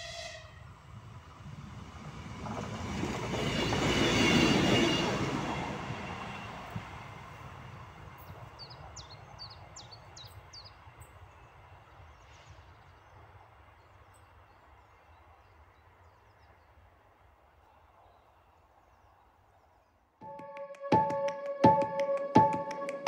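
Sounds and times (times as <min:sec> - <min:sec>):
passenger train rumble: 0:00.0 - 0:18.5.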